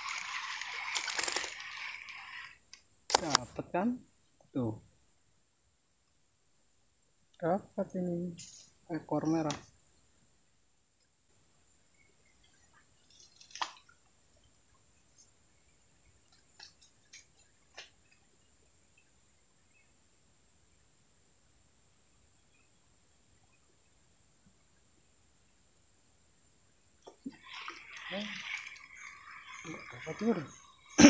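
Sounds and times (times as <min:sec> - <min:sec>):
insect chirring: 0:00.0 - 0:31.0.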